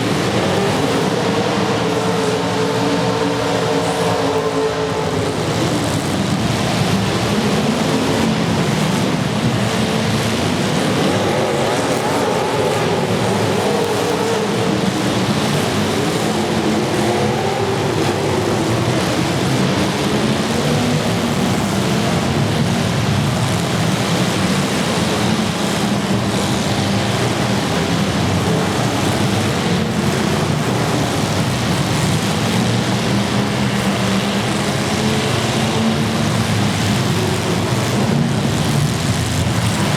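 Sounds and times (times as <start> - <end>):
car engines revving hard: 0.0 - 39.9
constant noisy wash: 0.0 - 39.9.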